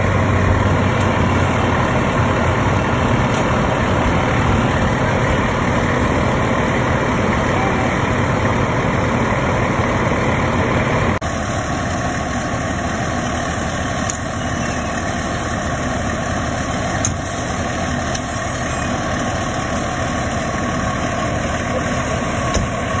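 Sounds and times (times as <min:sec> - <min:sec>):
diesel engine humming: 0:00.0 - 0:23.0.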